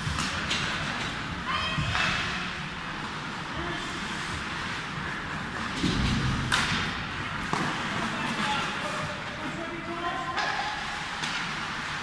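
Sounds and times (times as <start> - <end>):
skates scraping on ice: 0.0 - 12.0.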